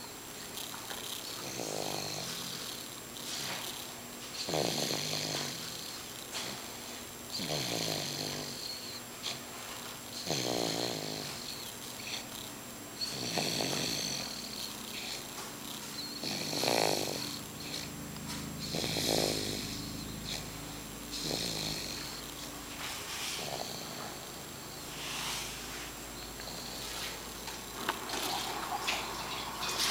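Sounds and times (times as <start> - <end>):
baby snoring: 0.6 - 9.5, 10.1 - 18.0, 18.6 - 29.9.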